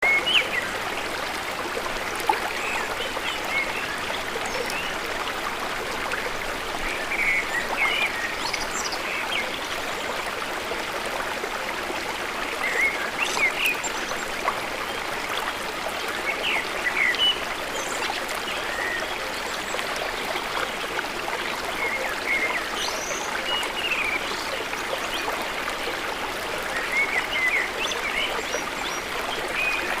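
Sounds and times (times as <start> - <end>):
flowing water: 0.0 - 30.0.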